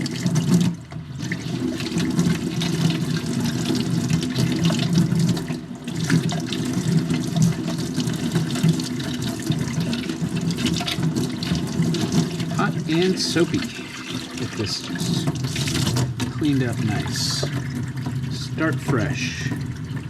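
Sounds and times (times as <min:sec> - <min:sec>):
plastic part being washed: 0:00.0 - 0:20.0
tap water running into sink: 0:00.0 - 0:20.0.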